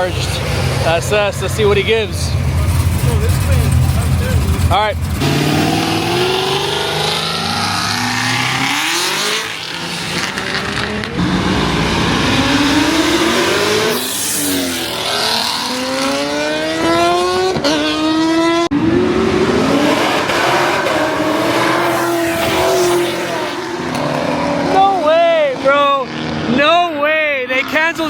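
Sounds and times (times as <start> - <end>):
car engine accelerating hard: 0.0 - 26.6.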